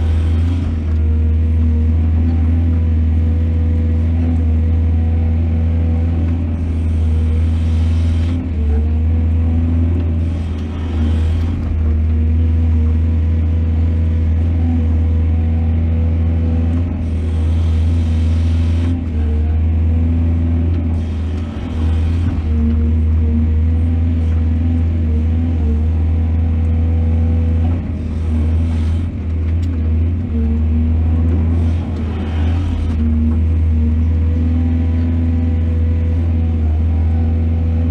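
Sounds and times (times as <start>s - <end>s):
diesel engine humming: 0.0s - 37.9s.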